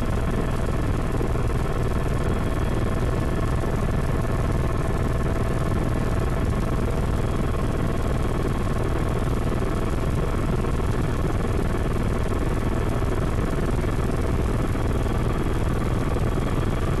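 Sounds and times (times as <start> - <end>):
helicopter engine and rotor rumble: 0.0 - 17.0.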